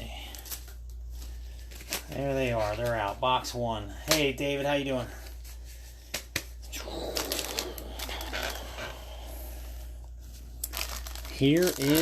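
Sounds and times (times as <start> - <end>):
low electrical hum: 0.0 - 12.0
wrapper rustling and crinkling: 0.2 - 3.6, 5.0 - 12.0.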